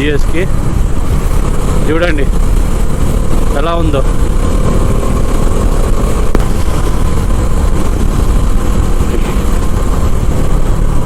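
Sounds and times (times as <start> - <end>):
motorcycle engine drone: 0.0 - 11.0
wind over microphone: 0.0 - 11.0.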